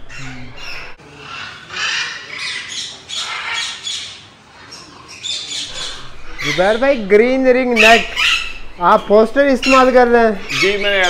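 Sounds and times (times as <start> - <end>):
parakeets squawking: 0.0 - 11.0.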